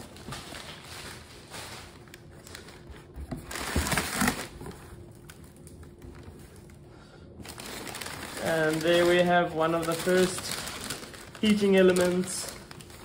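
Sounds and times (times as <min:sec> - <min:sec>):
newspaper rustling and crinkling: 0:00.0 - 0:06.8, 0:07.4 - 0:13.0.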